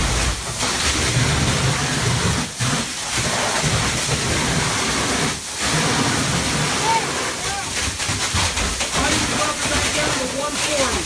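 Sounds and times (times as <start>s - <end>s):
water stream rushing and splashing: 0.0s - 11.0s.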